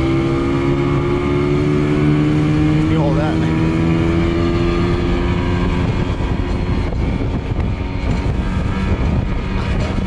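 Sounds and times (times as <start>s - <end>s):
continuous rushing noise: 0.0s - 10.0s
outboard motor running: 0.0s - 10.0s.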